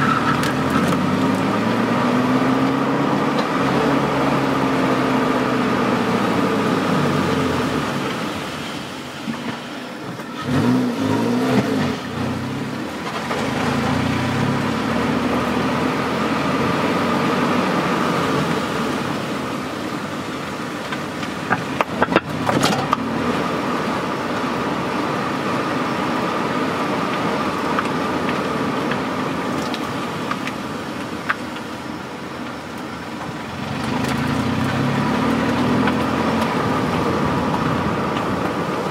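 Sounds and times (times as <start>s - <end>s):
car exhaust at low speed: 0.0s - 38.9s.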